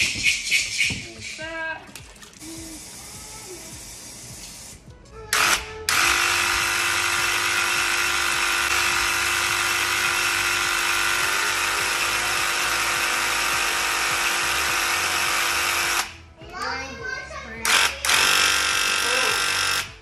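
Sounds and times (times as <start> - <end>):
electric pump humming: 1.8 - 16.2, 17.7 - 20.0.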